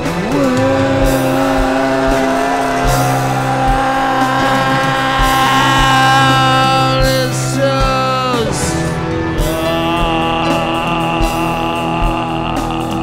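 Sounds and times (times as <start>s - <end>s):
rock band sustained note: 0.0s - 13.0s.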